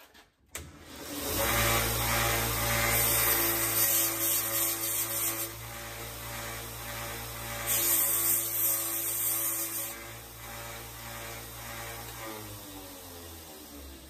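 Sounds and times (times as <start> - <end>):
belt sander running: 0.9 - 14.0
metal grinding on sander belt: 1.2 - 13.8.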